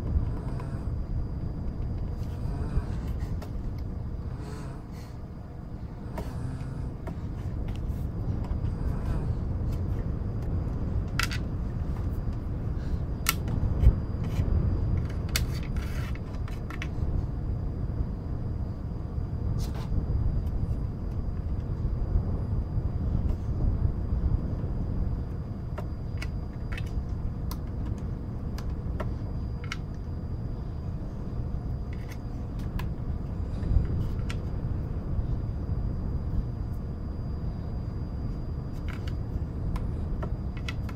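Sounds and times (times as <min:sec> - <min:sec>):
low wind-like rumble: 0:00.0 - 0:40.9.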